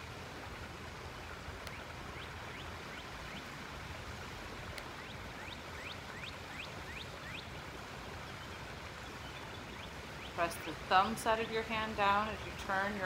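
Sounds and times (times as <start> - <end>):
creek water flowing: 0.0 - 13.0.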